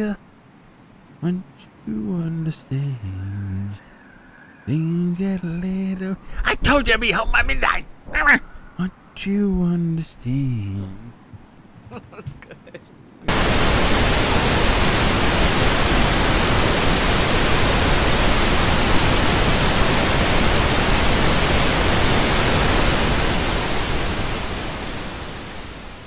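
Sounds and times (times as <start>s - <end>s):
television static hiss: 0.0s - 26.0s.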